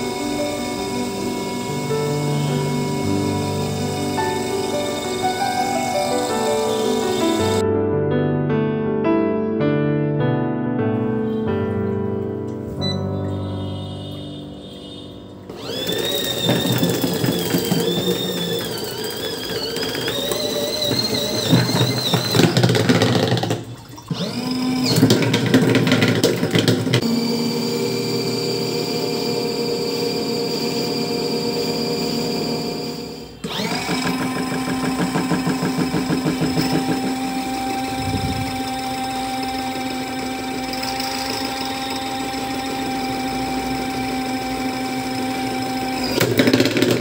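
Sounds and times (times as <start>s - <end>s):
washing machine motor whining: 0.0s - 7.6s, 11.3s - 47.0s.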